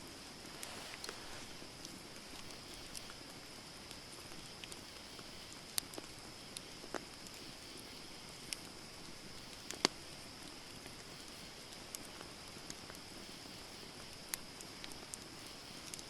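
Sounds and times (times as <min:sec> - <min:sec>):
campfire hissing: 0:00.0 - 0:16.0
fire crackling and popping: 0:00.0 - 0:16.0.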